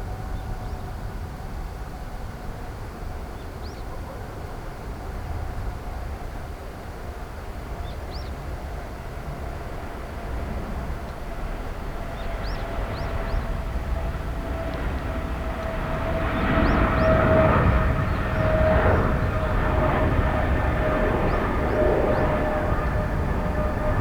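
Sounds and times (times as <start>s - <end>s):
jet engines whining and rumbling: 0.0s - 24.0s.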